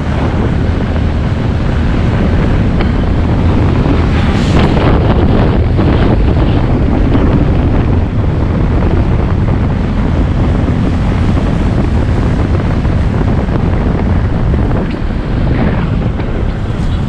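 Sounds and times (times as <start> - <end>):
rush of motorbike ride: 0.0 - 17.0
wind buffeting microphone: 0.0 - 17.0.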